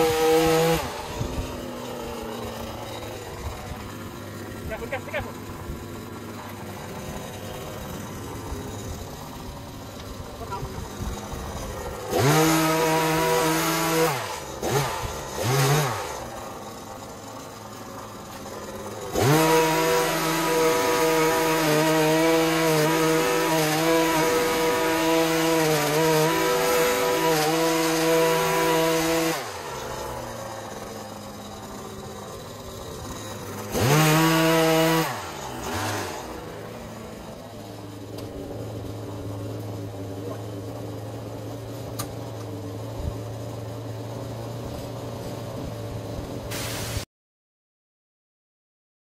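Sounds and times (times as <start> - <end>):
two-stroke hedge trimmer revving: 0.0 - 47.0.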